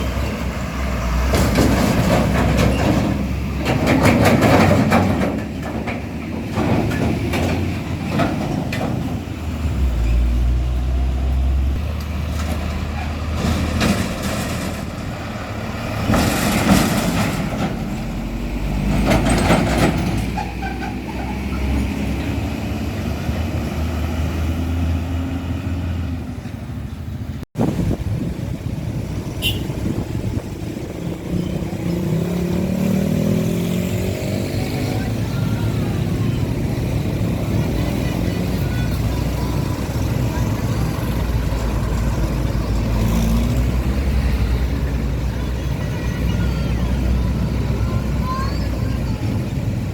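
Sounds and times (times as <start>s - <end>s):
diesel trucks driving past: 0.0s - 49.9s.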